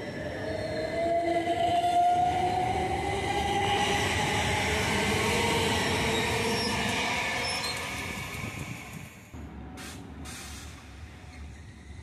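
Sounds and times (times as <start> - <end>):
train wheels rumbling on rails: 1.8 - 12.0.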